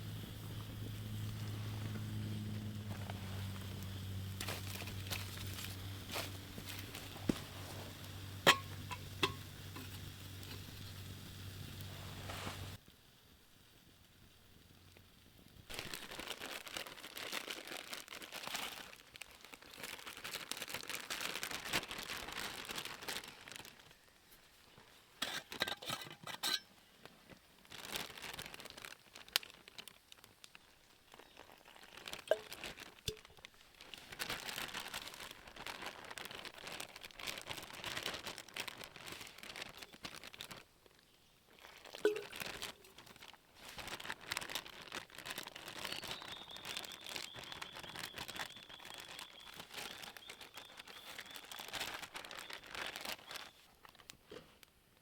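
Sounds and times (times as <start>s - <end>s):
crinkling rustling handling noise: 0.0s - 12.8s, 15.3s - 55.0s.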